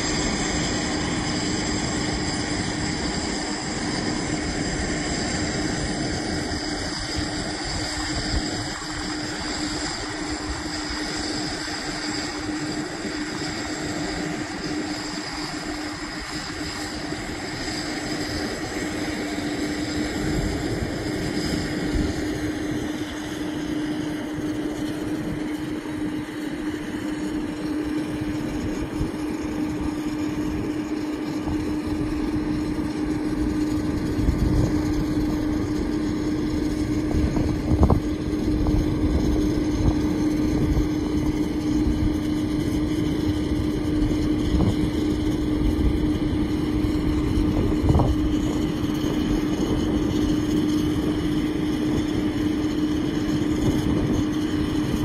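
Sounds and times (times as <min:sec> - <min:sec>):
distant jet engines rumble: 0:00.0 - 0:55.0
steady hum: 0:00.0 - 0:55.0
wind buffeting microphone: 0:00.0 - 0:55.0.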